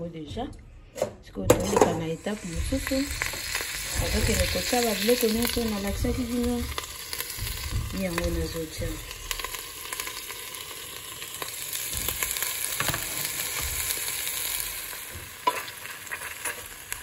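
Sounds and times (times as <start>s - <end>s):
meat sizzling in a pot: 1.7s - 17.0s.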